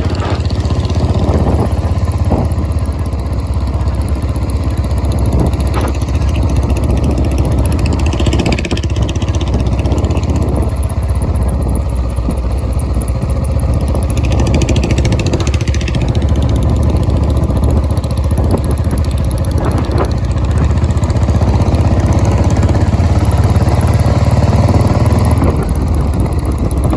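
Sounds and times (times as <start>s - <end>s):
motorcycle engine deep exhaust: 0.0s - 26.9s.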